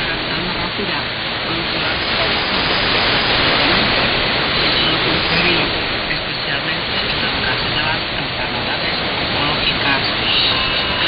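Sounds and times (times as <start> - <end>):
faint radio speech: 0.0 - 11.0
radio hiss and static: 0.0 - 11.0.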